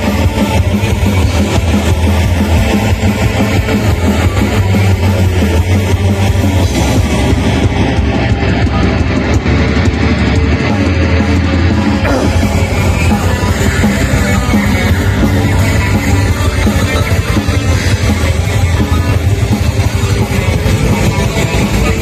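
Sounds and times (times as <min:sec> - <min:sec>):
metal band playing live: 0:00.0 - 0:22.0.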